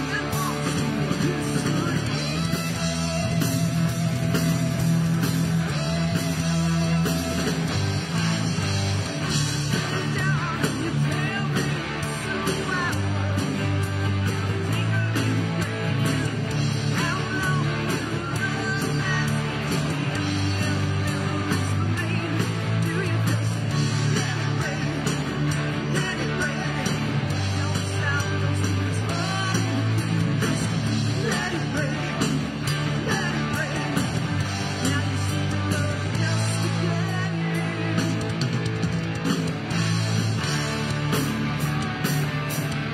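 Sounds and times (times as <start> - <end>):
electric guitar: 0.0 - 42.9
live rock band playing: 0.0 - 42.9.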